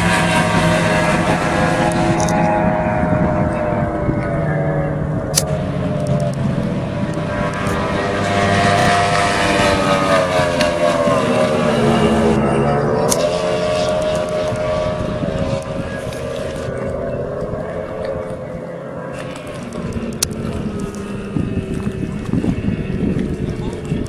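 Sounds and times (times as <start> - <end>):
speedboat passing at speed: 0.0 - 24.0.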